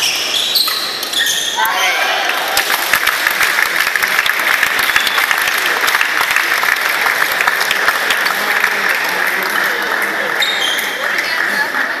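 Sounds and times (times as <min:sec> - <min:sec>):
crowd applauding: 0:02.1 - 0:12.0.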